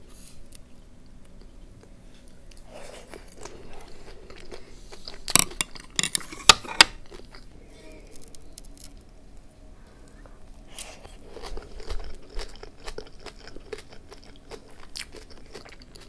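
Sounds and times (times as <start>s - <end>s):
quiet chewing: 0.1s - 9.2s, 9.8s - 16.0s.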